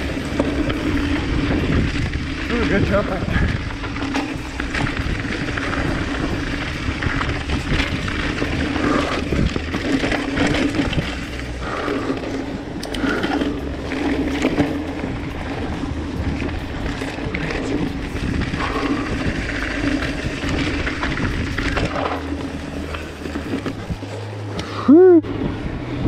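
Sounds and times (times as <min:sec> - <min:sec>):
bike rattling and knocking: 0:00.0 - 0:24.6
tyres crunching over gravel: 0:00.0 - 0:24.9
wind rumble on microphone: 0:00.0 - 0:26.0.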